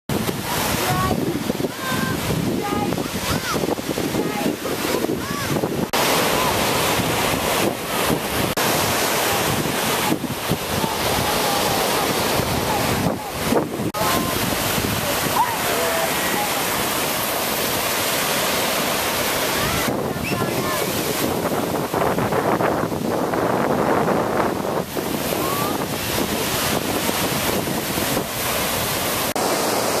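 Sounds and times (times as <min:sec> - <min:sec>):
wind buffeting microphone: 0:00.1 - 0:29.4
ocean surf breaking: 0:00.1 - 0:30.0.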